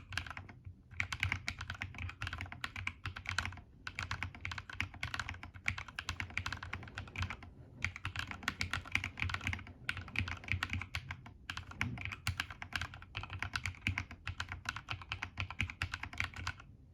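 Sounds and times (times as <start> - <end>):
mechanical keyboard typing: 0.0 - 16.7.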